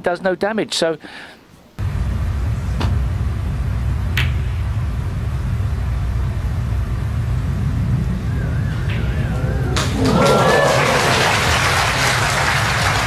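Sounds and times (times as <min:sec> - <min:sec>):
loud low rumble: 0:01.8 - 0:13.0.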